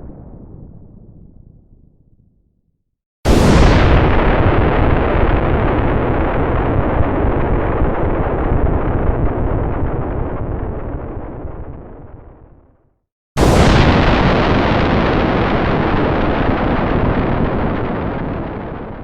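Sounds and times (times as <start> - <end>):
explosion blast: 0.0 - 2.4, 3.3 - 12.6, 13.4 - 19.0
deep explosion rumble: 0.0 - 2.6, 3.3 - 12.8, 13.4 - 19.0.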